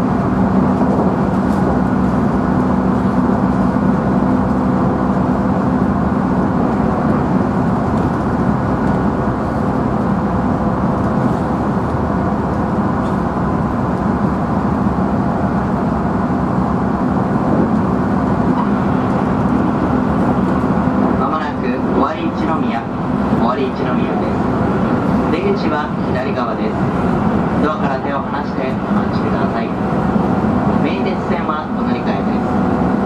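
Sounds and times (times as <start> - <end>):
wheel-on-rail rumble: 0.0 - 33.0.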